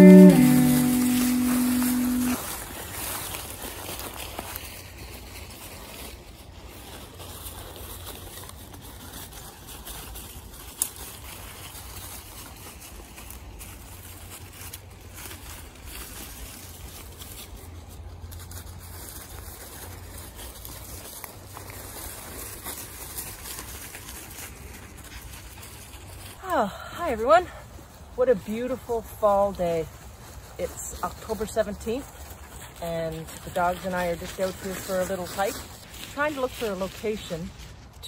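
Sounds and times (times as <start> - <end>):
dry leaves crunching underfoot: 0.0 - 26.6, 27.5 - 38.0.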